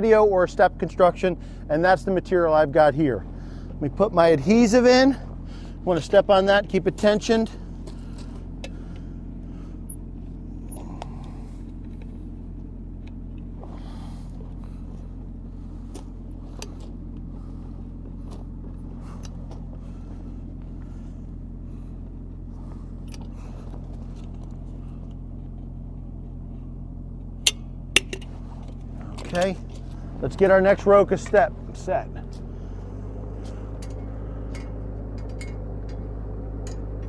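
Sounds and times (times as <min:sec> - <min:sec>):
construction engine idling: 0:00.0 - 0:37.0.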